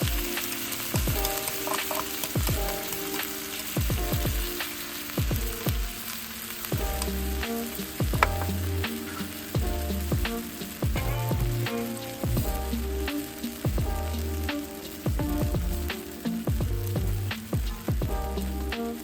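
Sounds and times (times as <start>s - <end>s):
background music with steady beat: 0.0s - 19.0s
food frying in a pan: 0.0s - 19.0s.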